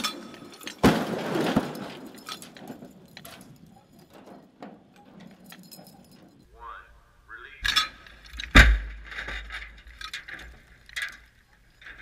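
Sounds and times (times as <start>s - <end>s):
light metallic clinks and rattles: 0.0s - 0.9s, 1.5s - 6.6s, 7.6s - 12.0s.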